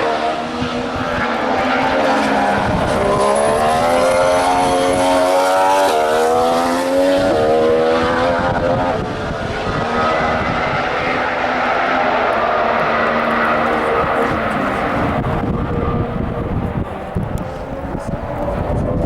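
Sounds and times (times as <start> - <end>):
racing car accelerating past: 0.0 - 18.8.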